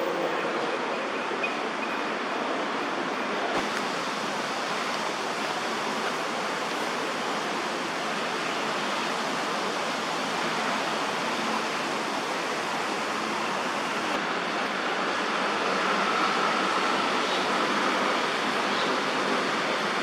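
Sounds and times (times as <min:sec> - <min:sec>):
outdoor background hiss: 0:03.5 - 0:20.0.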